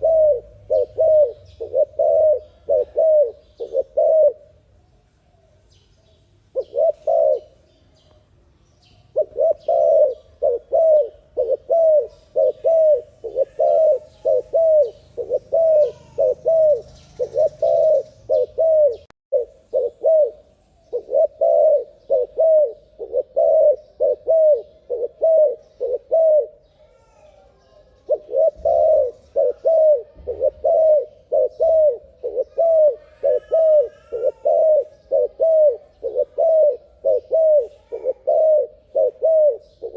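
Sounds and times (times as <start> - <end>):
turtle dove cooing: 0.0 - 4.7, 6.5 - 7.7, 8.8 - 39.9
faint bird chirps: 0.0 - 39.9.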